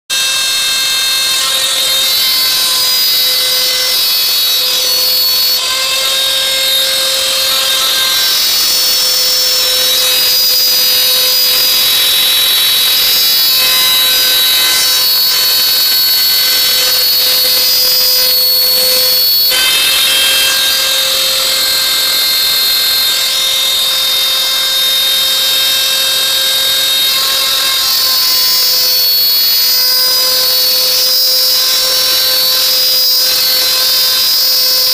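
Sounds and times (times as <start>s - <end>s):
router whining cutting metal panel: 0.1s - 34.9s.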